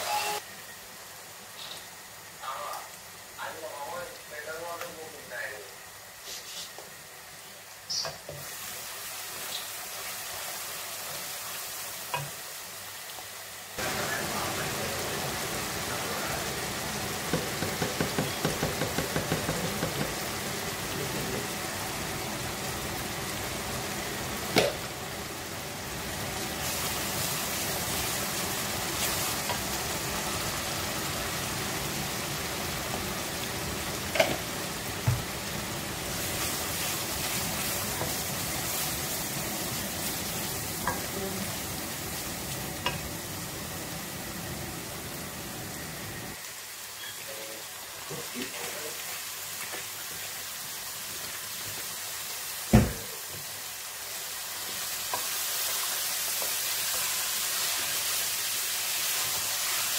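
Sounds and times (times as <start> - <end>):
paste sizzling in hot oil: 6.1 - 59.9.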